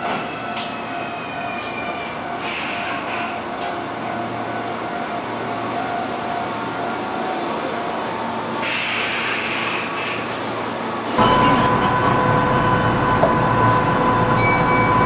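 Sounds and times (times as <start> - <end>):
electric train running hum: 0.0 - 15.0.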